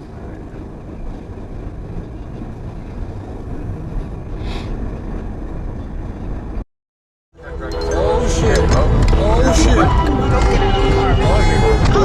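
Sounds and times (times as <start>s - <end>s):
car engine and tyres rumble: 0.0s - 6.6s, 8.2s - 12.0s.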